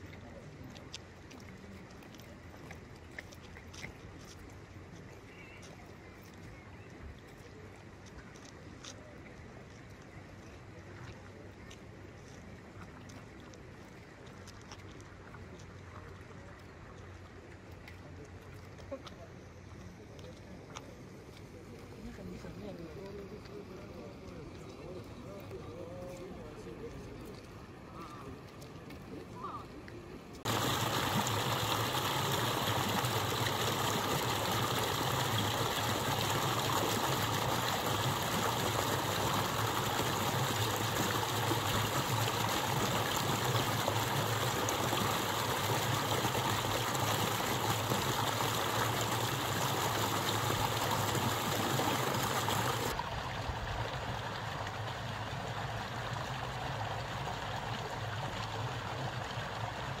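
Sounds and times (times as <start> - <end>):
water rushing in a stream: 0.0 - 60.0.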